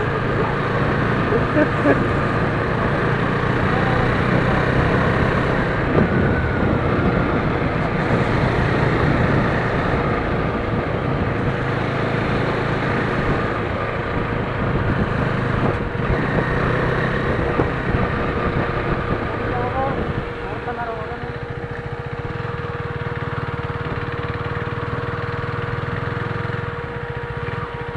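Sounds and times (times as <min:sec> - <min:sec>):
motorcycle engine and exhaust: 0:00.0 - 0:27.9.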